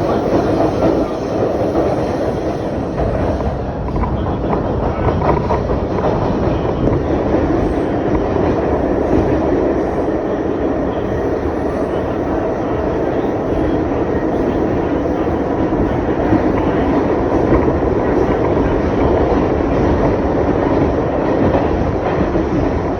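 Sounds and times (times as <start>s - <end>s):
subway train wheels on rail: 0.0s - 22.9s.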